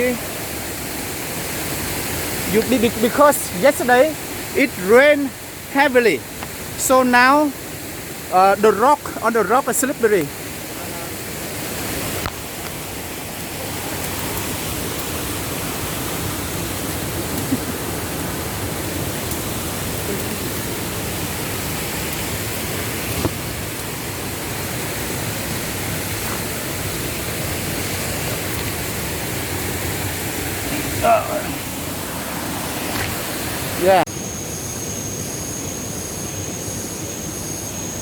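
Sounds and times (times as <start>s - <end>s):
waterfall rushing over rocks: 0.0s - 38.0s.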